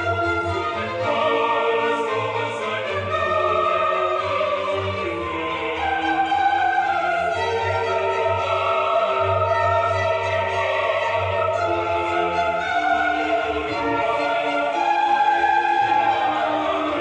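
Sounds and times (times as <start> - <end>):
classical singing with orchestra: 0.0 - 17.0.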